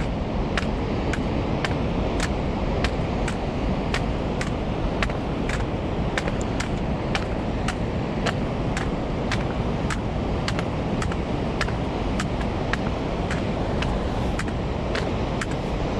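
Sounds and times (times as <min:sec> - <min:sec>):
footsteps on cobblestones: 0:00.0 - 0:15.9
sea surf breaking: 0:00.0 - 0:15.9
wind rumble: 0:00.0 - 0:15.9.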